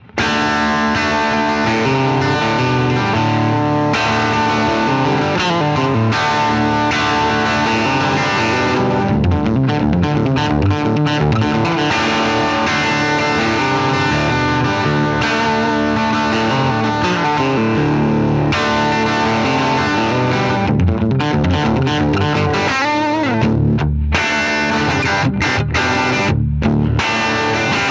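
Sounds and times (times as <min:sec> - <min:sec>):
electric guitar strumming chords: 0:00.0 - 0:27.9
picked guitar notes: 0:00.0 - 0:27.9.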